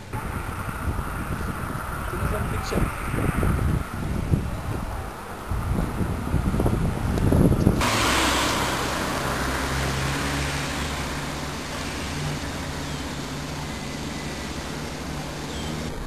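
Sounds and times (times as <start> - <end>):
low engine hum: 0.0 - 16.0
vehicle rushing past: 0.1 - 16.0.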